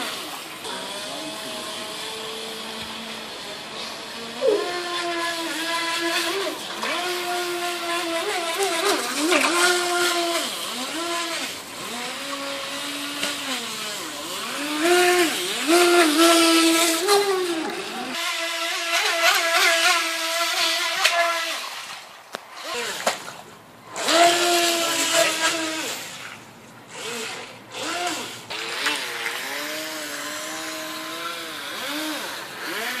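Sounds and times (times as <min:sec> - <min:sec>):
electric motor of toy boat whining: 0:00.0 - 0:23.2, 0:23.9 - 0:26.3, 0:26.9 - 0:33.0.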